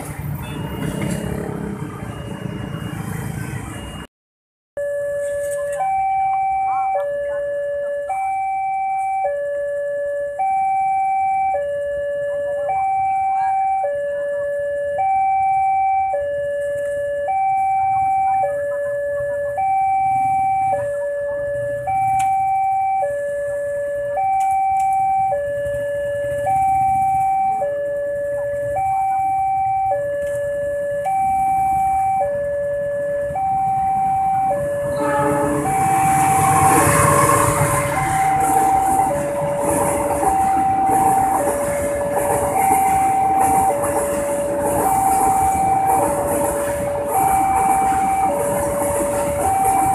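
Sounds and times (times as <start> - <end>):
level crossing two-tone alarm: 0.4 - 4.1, 4.8 - 49.9.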